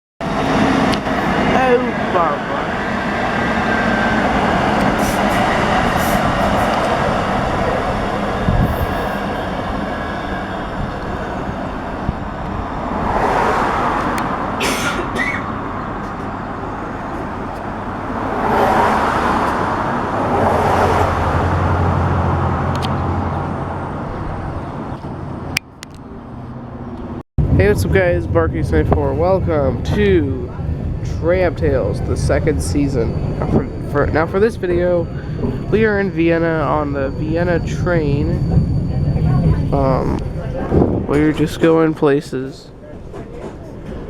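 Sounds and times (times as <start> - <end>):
tram wheels rumbling on rails: 0.2 - 44.0.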